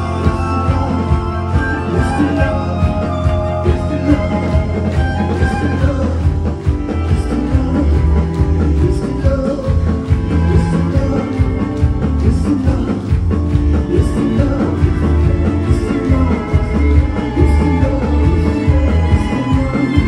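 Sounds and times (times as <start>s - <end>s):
live band music with heavy bass: 0.0s - 20.0s.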